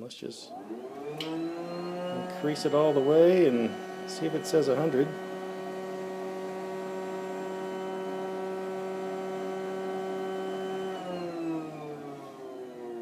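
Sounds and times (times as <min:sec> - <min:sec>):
electric air pump humming: 0:00.5 - 0:13.0.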